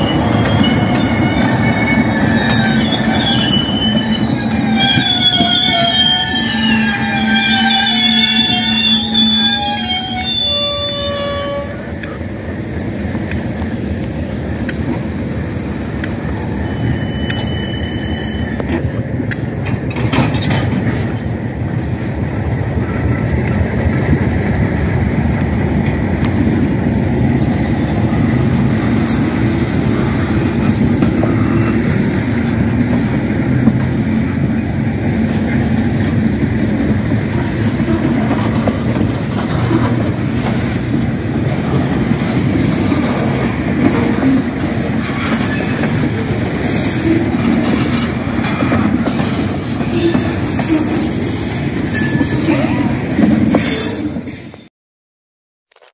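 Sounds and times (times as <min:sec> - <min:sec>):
train wheels rumbling on rail: 0:00.0 - 0:54.7.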